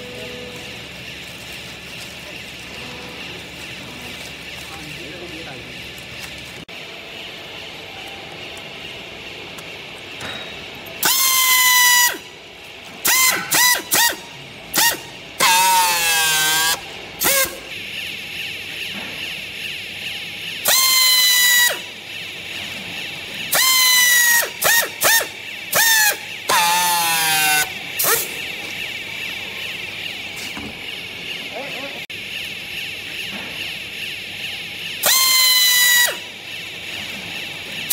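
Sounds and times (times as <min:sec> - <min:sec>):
pneumatic tool air motor whine: 0:07.2 - 0:37.9.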